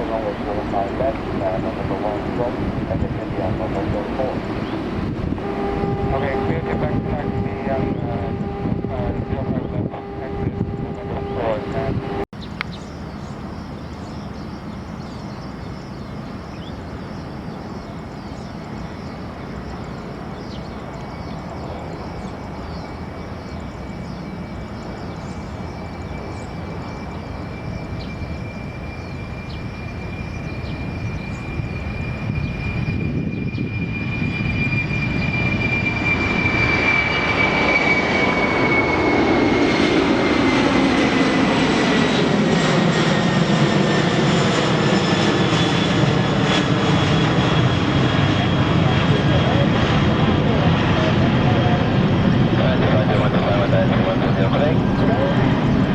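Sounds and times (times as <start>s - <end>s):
high turbine whine: 0.0s - 55.9s
jet engines roaring: 0.0s - 55.9s.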